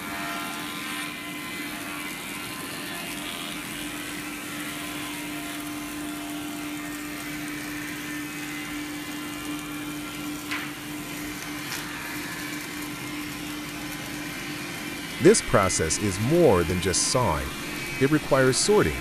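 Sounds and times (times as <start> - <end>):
bandsaw and conveyor humming: 0.0 - 19.0.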